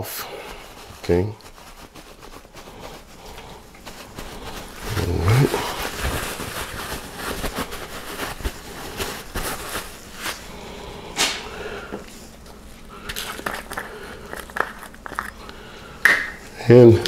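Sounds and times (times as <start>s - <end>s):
paper towel rustling and crinkling: 0.0s - 10.7s, 12.1s - 15.4s.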